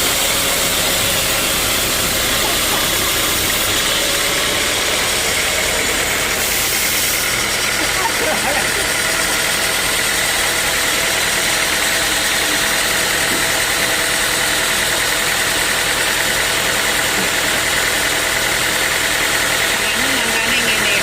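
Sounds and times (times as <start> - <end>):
sawmill machinery whining: 0.0 - 21.0.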